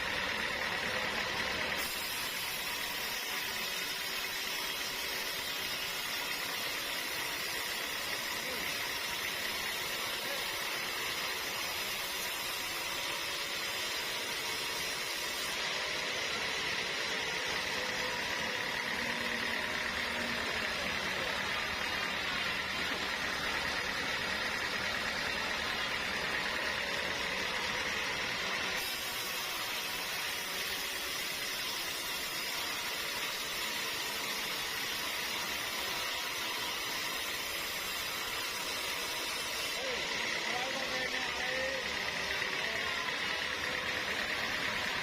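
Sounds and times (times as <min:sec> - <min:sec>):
sawmill machinery running: 0:00.0 - 0:45.0.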